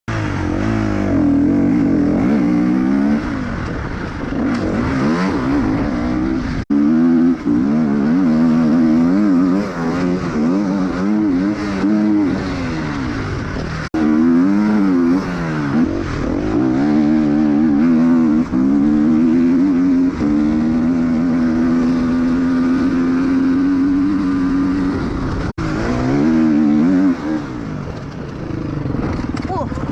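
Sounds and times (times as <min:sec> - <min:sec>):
motorcycle engine revving: 0:00.1 - 0:29.9.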